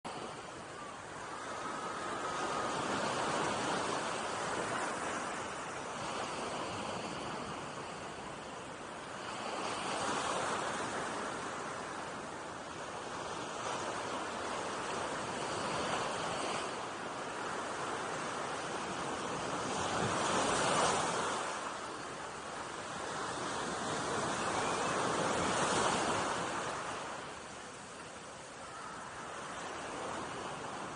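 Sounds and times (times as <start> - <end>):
ocean waves washing up beach: 0.1 - 30.9.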